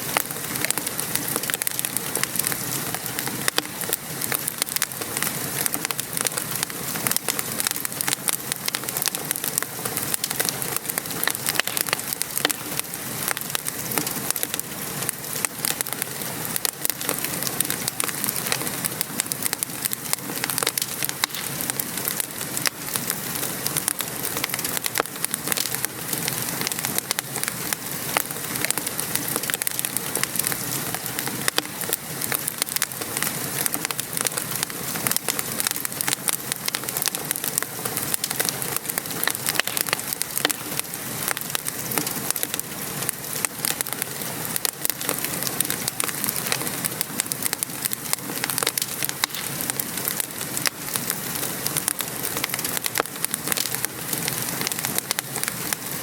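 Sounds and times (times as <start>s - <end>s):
rain pattering: 0.0s - 56.0s
wood fire crackling: 0.0s - 56.0s.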